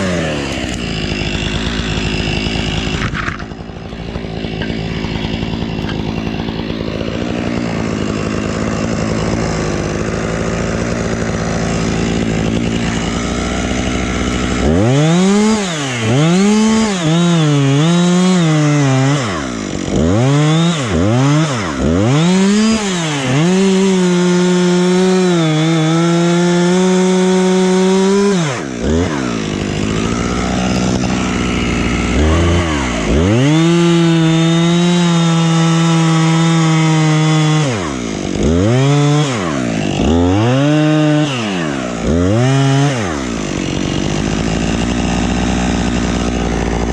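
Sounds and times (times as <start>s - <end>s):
chainsaw revving: 0.0s - 46.9s.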